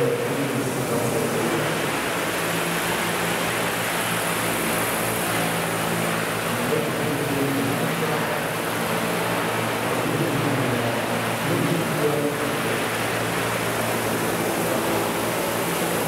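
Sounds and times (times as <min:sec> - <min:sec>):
model helicopter rotor noise: 0:00.0 - 0:16.0.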